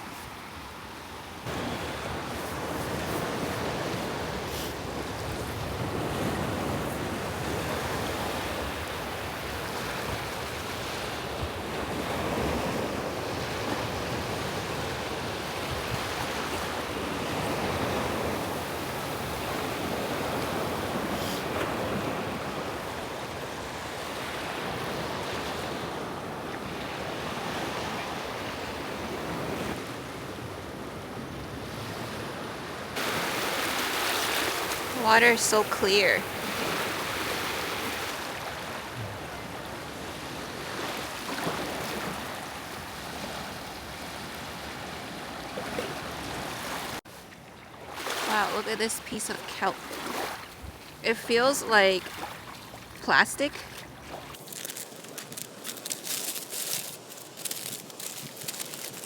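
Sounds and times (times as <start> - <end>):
sea waves washing on beach: 0.0 - 59.0.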